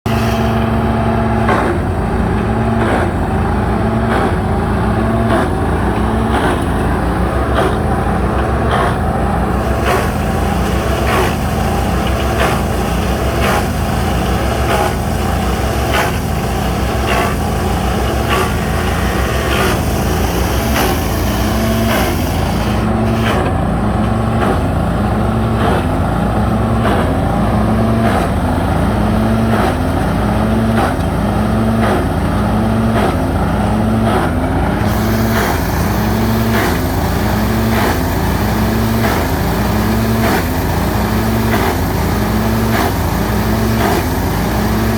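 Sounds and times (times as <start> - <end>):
wood chipper engine drone: 0.0 - 44.9.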